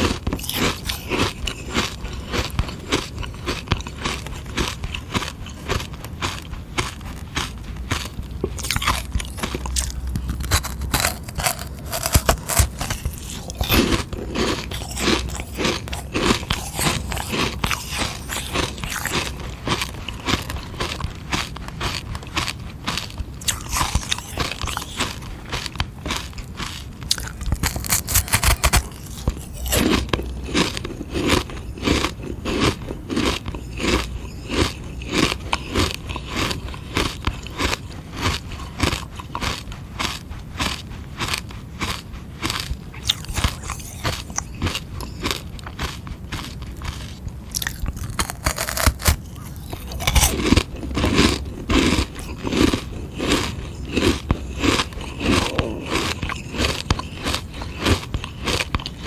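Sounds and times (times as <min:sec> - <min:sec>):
crunching ice: 0:00.0 - 0:59.0.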